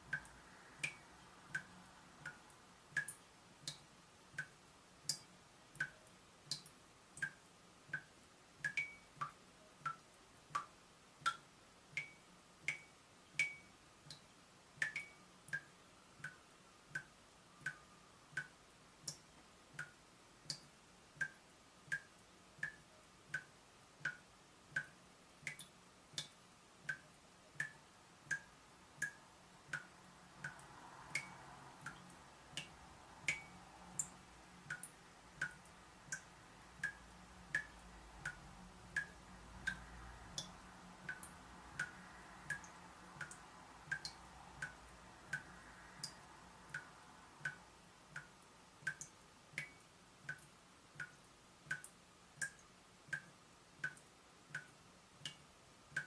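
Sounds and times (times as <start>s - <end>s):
water dripping from tap: 0.0s - 56.0s.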